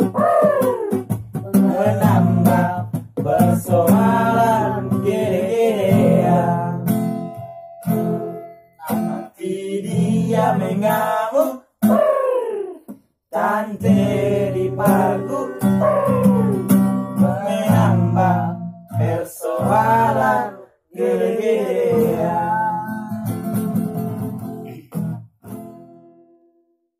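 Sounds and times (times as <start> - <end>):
person singing: 0.0 - 7.1, 8.8 - 23.7
acoustic guitars playing chords: 0.0 - 12.3, 13.4 - 26.7.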